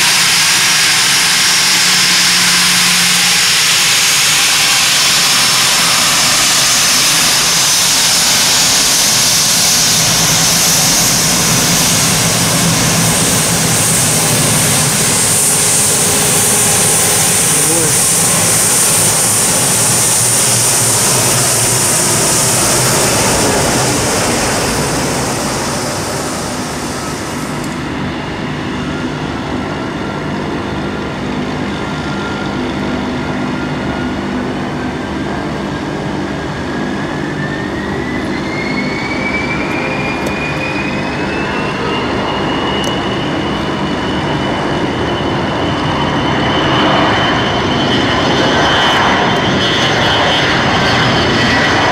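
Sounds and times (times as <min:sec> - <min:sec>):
jet engines whining: 0:00.0 - 0:51.9.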